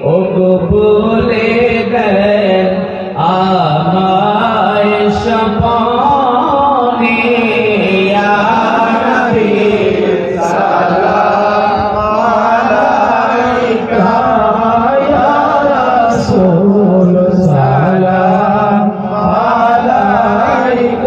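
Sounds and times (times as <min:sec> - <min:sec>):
men chanting together: 0:00.0 - 0:21.0.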